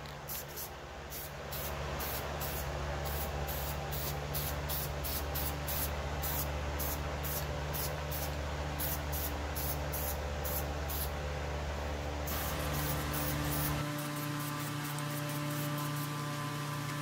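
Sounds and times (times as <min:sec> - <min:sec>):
steady low hum: 0:00.0 - 0:17.0
spray paint can hissing: 0:00.2 - 0:11.2, 0:12.3 - 0:17.0.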